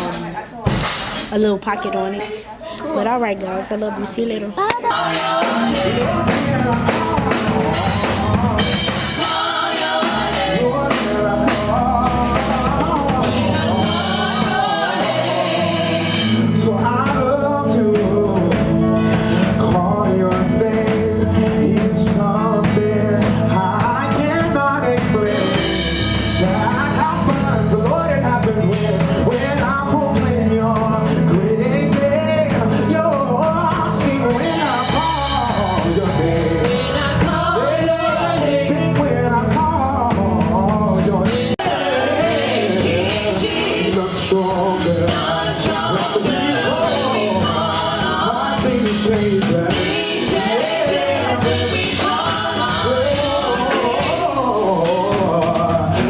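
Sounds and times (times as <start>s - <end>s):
song with singing and full band: 4.6s - 56.0s.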